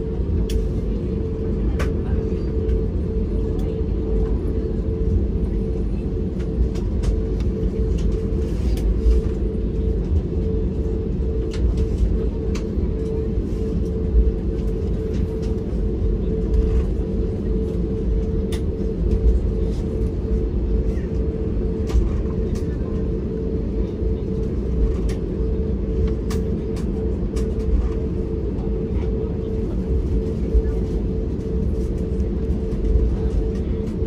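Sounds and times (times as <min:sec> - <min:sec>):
cabin low rumble: 0:00.0 - 0:34.0
constant hum: 0:00.0 - 0:34.0.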